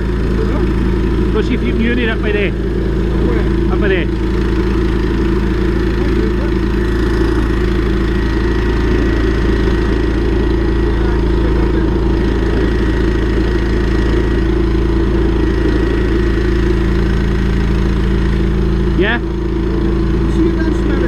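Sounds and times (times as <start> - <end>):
drain-jetting machine engine running: 0.0 - 21.0.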